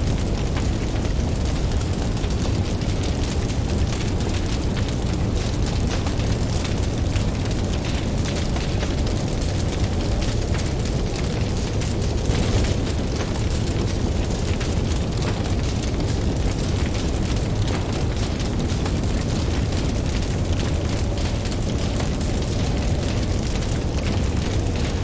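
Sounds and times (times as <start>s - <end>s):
burning wood popping: 0.0s - 25.0s
campfire crackling: 0.0s - 25.0s.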